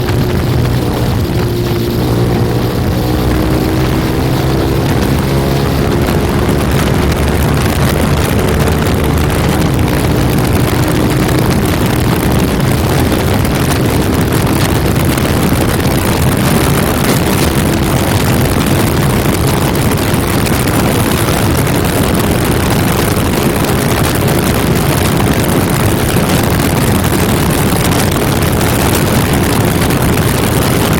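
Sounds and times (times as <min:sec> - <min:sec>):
motorcycle engine accelerating: 0:00.0 - 0:30.9
wind rush: 0:00.0 - 0:30.9.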